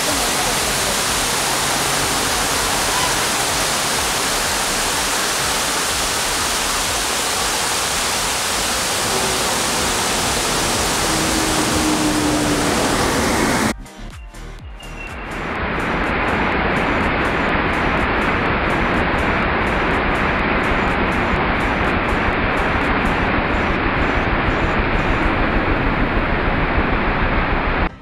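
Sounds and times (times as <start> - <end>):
stream rushing over rocks: 0.0 - 13.8, 15.4 - 27.9.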